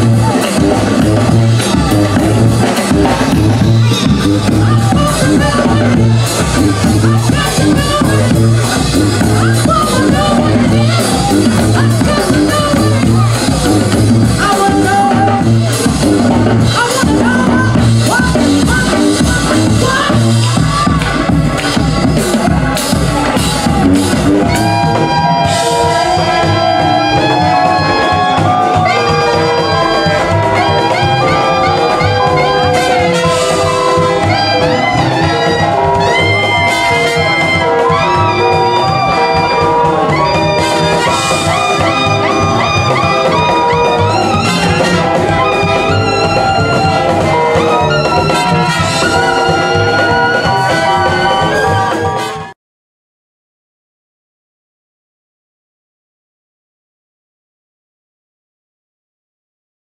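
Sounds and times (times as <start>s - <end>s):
brass band playing jazz: 0.0s - 52.6s.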